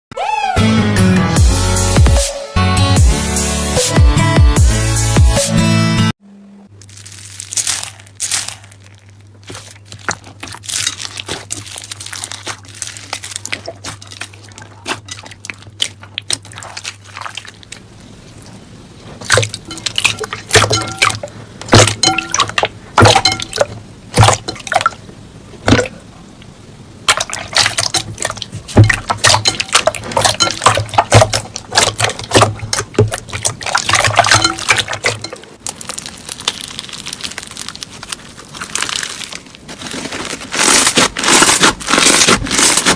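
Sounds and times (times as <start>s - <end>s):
low steady hum: 6.2s - 42.9s.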